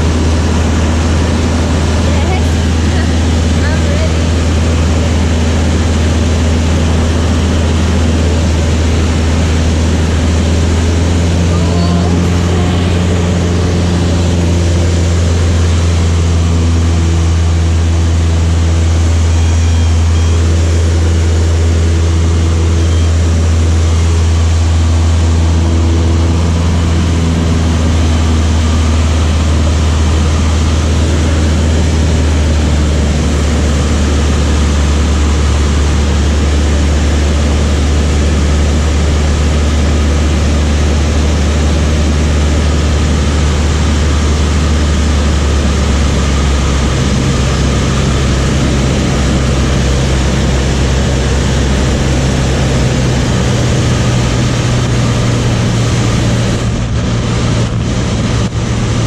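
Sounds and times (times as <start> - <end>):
propeller aircraft engine droning: 0.0 - 59.0.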